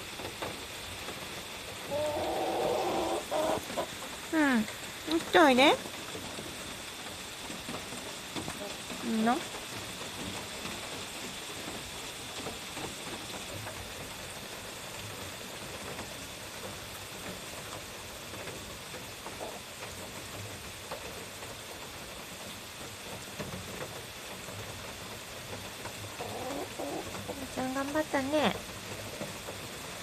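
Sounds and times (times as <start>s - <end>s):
light rain hissing: 0.0s - 30.0s.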